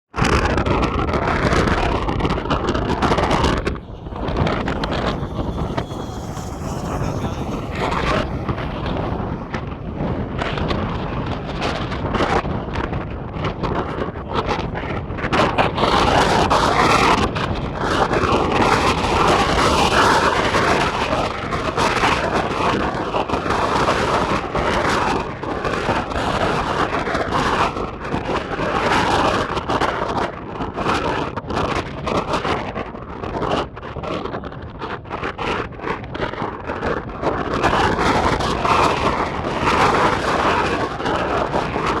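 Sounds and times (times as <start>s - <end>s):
gusty wind on microphone: 0.1s - 42.0s.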